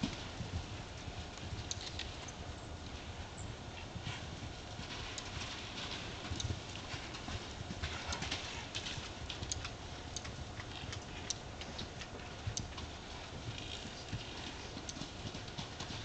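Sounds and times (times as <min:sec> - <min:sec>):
hoofbeats on dirt: 0:00.0 - 0:16.0.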